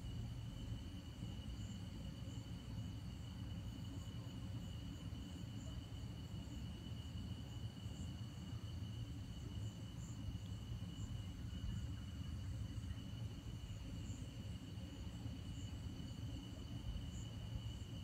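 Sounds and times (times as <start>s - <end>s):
night insects chirping: 0.0s - 18.0s.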